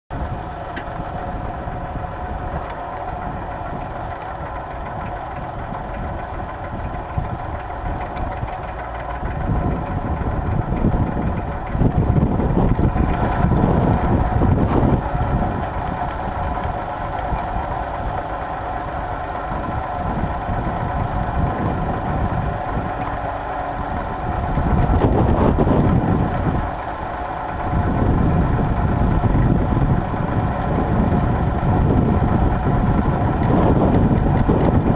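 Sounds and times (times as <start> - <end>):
tractor engine ploughing: 0.1 - 34.9.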